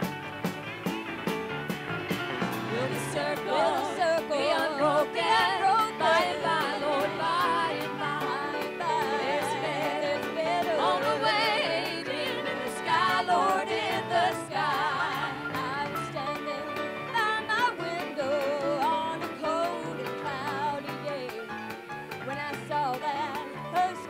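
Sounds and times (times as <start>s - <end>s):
country band playing: 0.0s - 24.0s
woman singing with vibrato: 2.7s - 21.5s, 22.2s - 24.0s
women's backing vocals: 2.7s - 21.5s, 22.2s - 24.0s.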